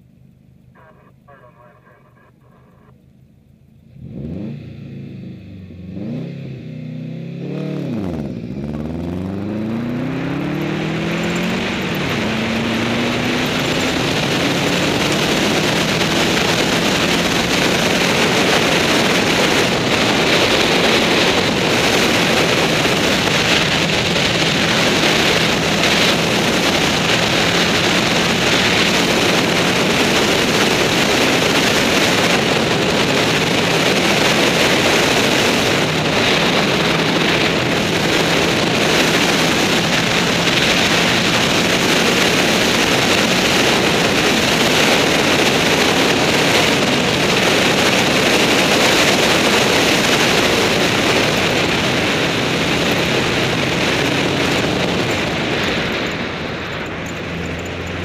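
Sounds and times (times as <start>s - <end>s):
rally car engine revving: 0.0s - 3.2s, 3.8s - 58.0s.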